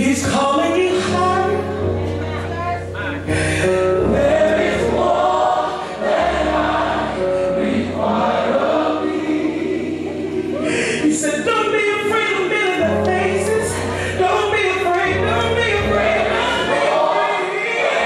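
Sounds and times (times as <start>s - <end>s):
choir singing gospel: 0.0s - 18.0s.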